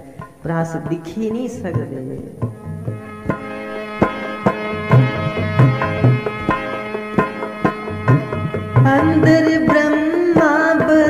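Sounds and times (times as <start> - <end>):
held chords: 0.0 - 11.0
tabla strokes: 0.0 - 11.0.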